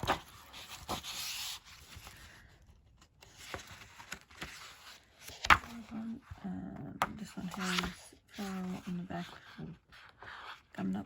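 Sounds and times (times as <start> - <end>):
paper rustling: 0.0 - 6.2, 7.1 - 10.9.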